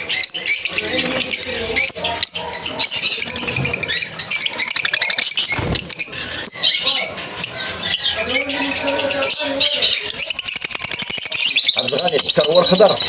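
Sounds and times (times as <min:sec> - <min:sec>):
lovebirds chirping and chattering: 0:00.0 - 0:13.0
rapid trilled bird chatter: 0:00.0 - 0:13.0.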